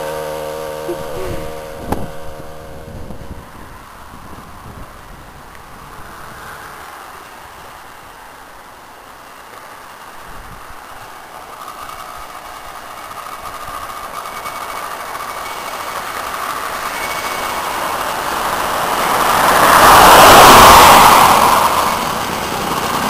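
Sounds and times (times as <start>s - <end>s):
faint thin engine whine: 0.0s - 23.0s
truck passing on highway: 0.0s - 23.0s.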